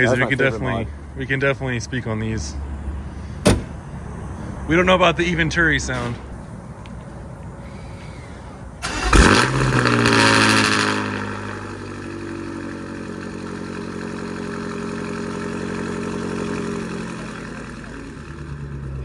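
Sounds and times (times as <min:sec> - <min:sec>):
car engine starting and idling: 0:00.0 - 0:07.1, 0:08.7 - 0:19.0.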